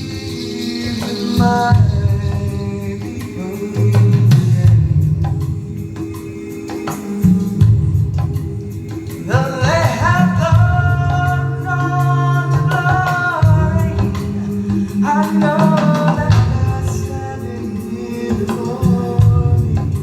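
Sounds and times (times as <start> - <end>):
person singing long notes: 0.0 - 20.0.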